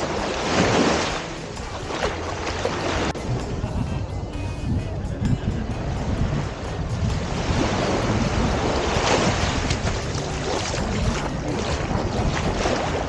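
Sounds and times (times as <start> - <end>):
waves washing onto beach: 0.0 - 3.6, 5.8 - 13.0
wind rumbling on microphone: 0.0 - 13.0.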